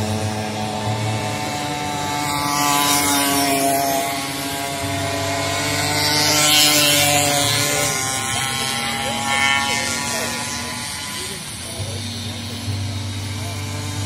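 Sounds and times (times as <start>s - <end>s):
racing moped engines whining: 0.0s - 14.0s.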